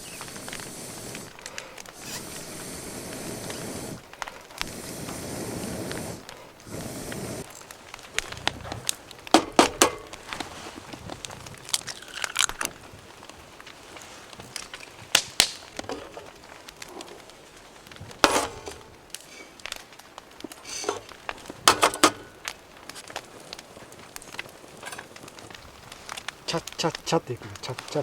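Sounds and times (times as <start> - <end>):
campfire crackling and popping: 0.0 - 28.0
low hiss: 0.0 - 28.0.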